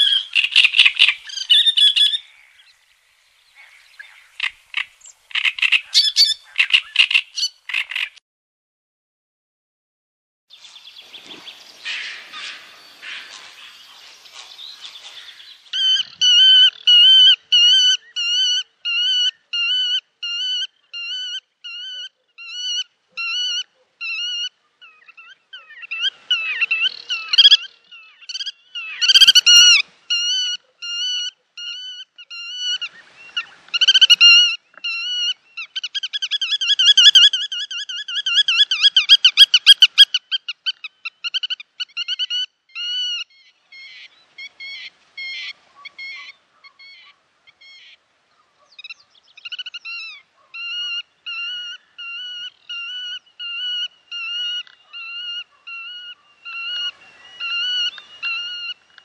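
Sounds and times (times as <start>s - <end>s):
godwits calling: 0.0s - 2.8s, 3.5s - 8.2s, 10.6s - 59.0s.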